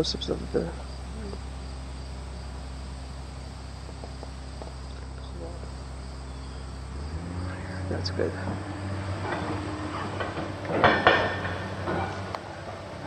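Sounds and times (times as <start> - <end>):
crickets chirring: 0.0 - 13.0
low steady hum: 0.0 - 13.0.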